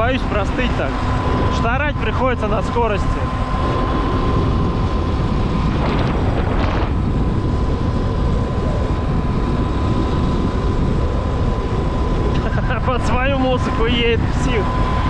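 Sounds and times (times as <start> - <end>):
thin electric motor whine: 0.0 - 15.0
wind buffeting microphone: 0.0 - 15.0.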